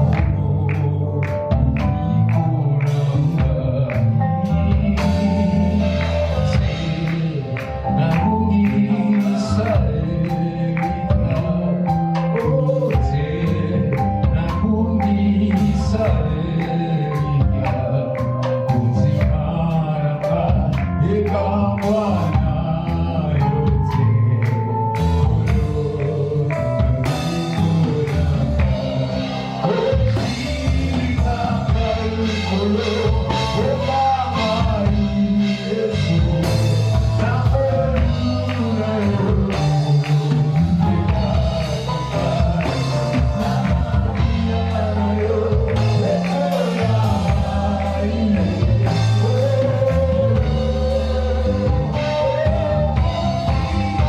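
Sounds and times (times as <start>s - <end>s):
live gospel band playing: 0.0s - 54.0s
person singing: 0.0s - 54.0s.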